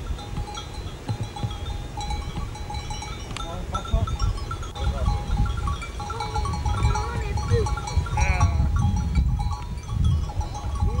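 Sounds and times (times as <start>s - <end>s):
small bells clinking: 0.0s - 11.0s.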